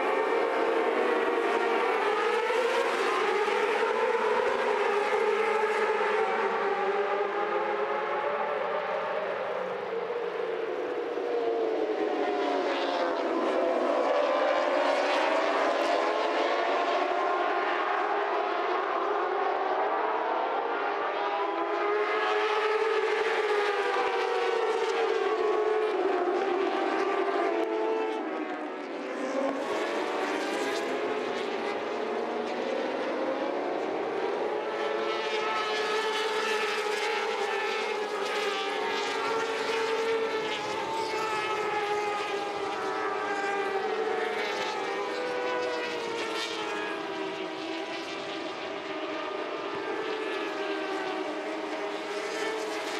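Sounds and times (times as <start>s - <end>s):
racing motorcycles at speed: 0.0s - 52.9s.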